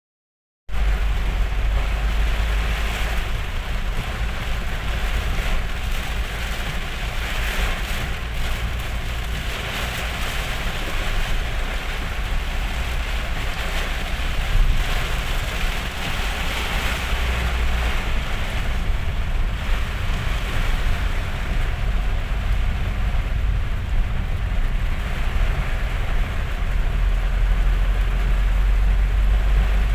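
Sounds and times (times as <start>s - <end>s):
heavy rain pouring: 0.7s - 29.9s
low rumble: 0.7s - 29.9s.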